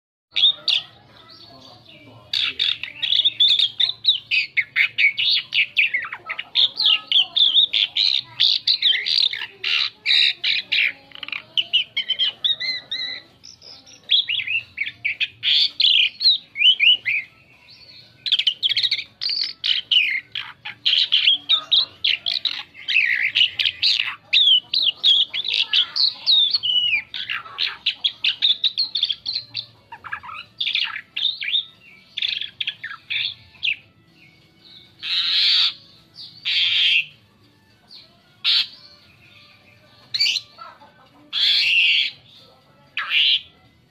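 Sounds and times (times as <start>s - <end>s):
starling singing: 0.3s - 43.9s.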